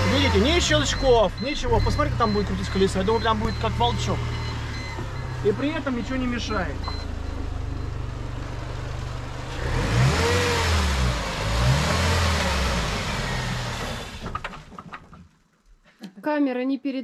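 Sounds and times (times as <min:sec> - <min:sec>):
car engine idling and revving: 0:00.0 - 0:14.7.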